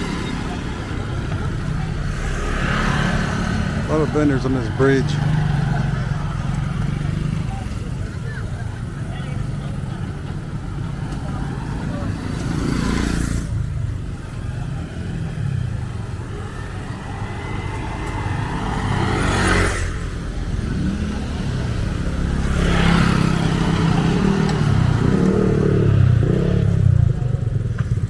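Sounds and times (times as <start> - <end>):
traffic engine rumble: 0.0 - 28.0
vehicles passing close: 0.0 - 28.0.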